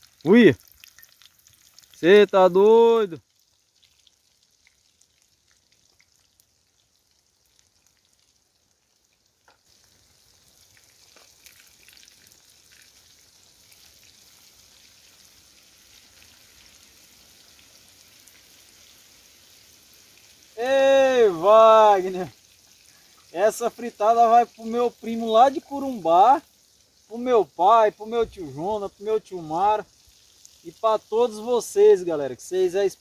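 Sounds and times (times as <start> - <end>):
fish frying in hot oil: 0.0 - 33.0.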